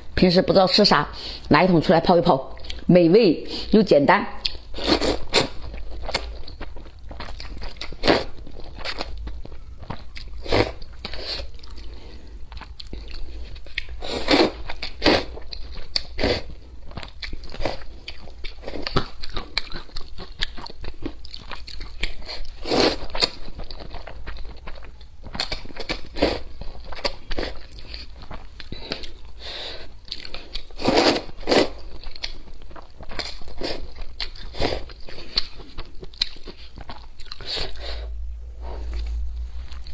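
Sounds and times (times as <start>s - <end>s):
chewing: 4.4s - 38.1s.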